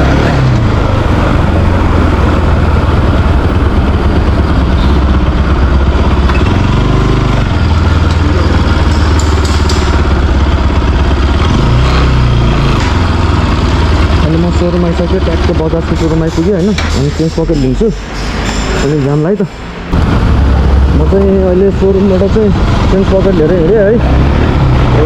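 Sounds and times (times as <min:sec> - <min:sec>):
heavy low rumble: 0:00.0 - 0:25.0
motorcycle engine running: 0:00.0 - 0:25.0.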